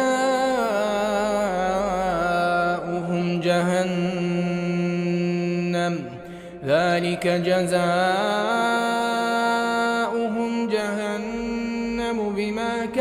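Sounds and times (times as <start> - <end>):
melodic recitation by single voice: 0.0 - 13.0.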